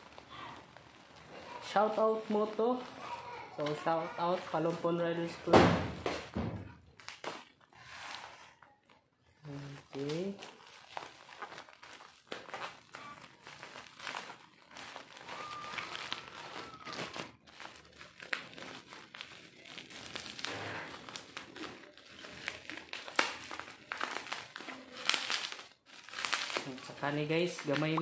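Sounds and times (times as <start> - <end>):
plastic packaging crinkling: 0.0 - 6.1, 6.8 - 28.0.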